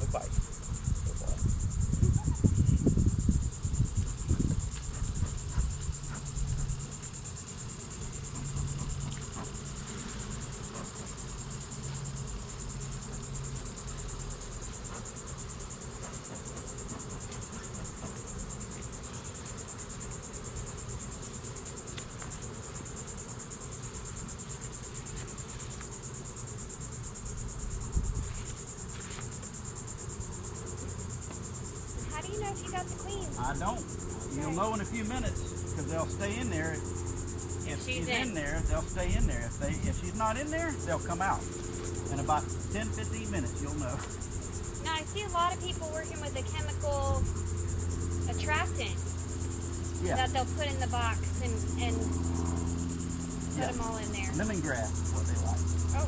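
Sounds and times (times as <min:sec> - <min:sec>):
high-pitched insect chorus: 0:00.0 - 0:56.0
honeybee swarm buzzing: 0:00.0 - 0:56.0.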